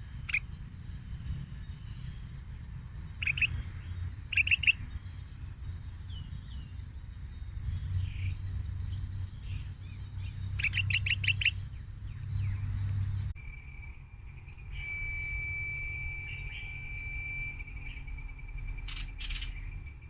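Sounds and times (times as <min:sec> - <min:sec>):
bird chirping: 0:00.0 - 0:15.0, 0:16.1 - 0:20.0
low steady rumble: 0:00.0 - 0:20.0.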